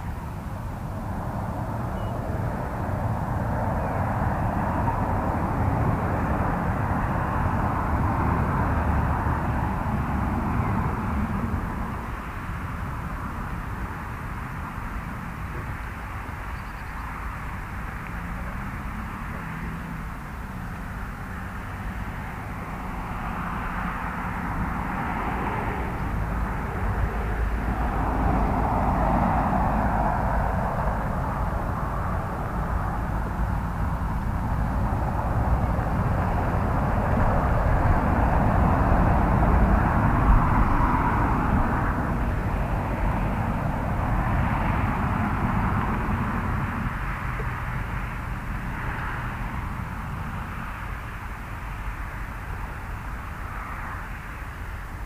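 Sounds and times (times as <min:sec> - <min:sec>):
wind buffeting microphone: 0:00.0 - 0:50.8.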